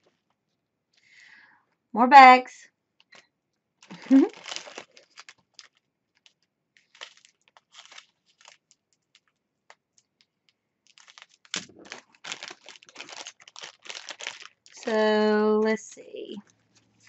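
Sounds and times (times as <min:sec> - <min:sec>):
plastic bags of beads crinkling: 0:03.0 - 0:17.0.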